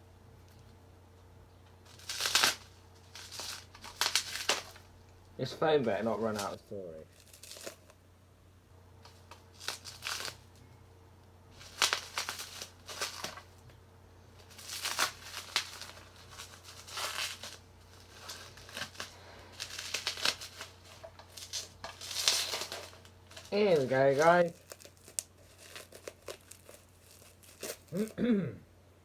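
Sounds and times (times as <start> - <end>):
wrapper crinkling: 1.8 - 8.0, 9.0 - 10.6, 11.5 - 13.7, 14.4 - 28.2.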